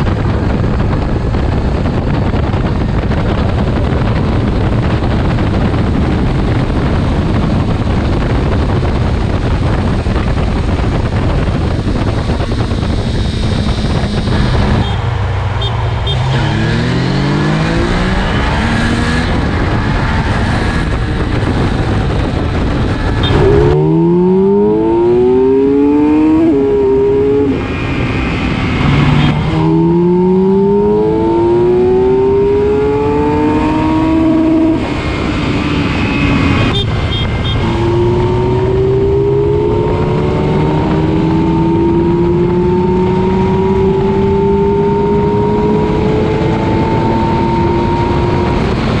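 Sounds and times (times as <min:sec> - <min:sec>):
motorcycle engine accelerating: 0:00.0 - 0:49.0
wind rush: 0:00.0 - 0:49.0.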